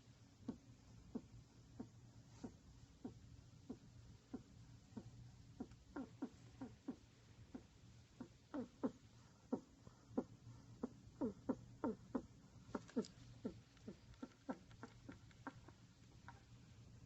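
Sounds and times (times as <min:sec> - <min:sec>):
rat snoring squeakily: 0:00.5 - 0:16.4.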